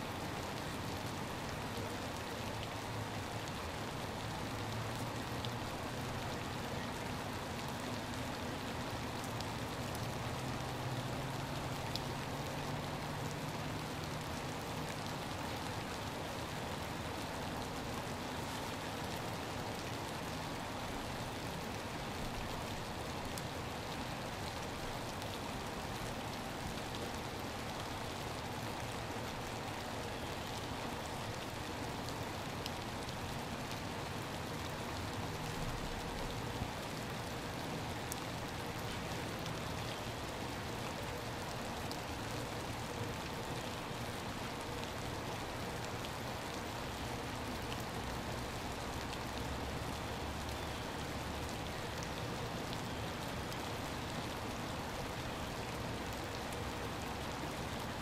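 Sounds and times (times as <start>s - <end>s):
rain falling on puddles: 0.0s - 58.0s.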